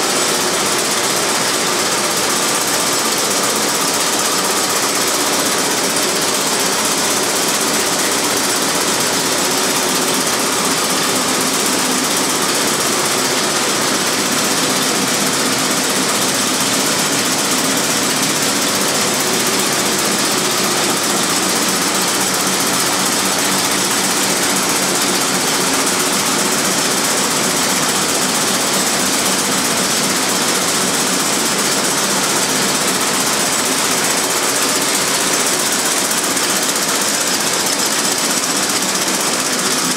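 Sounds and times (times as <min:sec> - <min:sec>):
textile machine mechanical chatter: 0:00.0 - 0:39.9.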